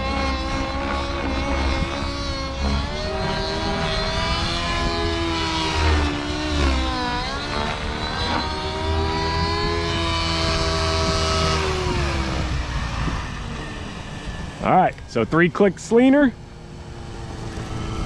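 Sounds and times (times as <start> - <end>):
model helicopter engine and rotor: 0.0 - 18.0.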